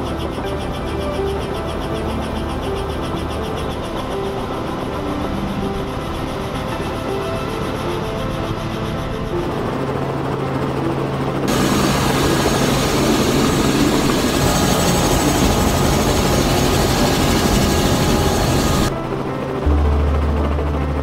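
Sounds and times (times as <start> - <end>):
aircraft noise: 0.0 - 21.0.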